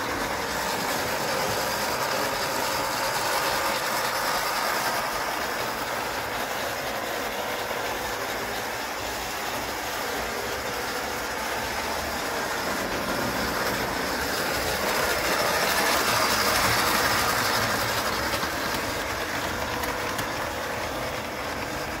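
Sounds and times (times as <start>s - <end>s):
toy train running on track: 0.0s - 22.0s.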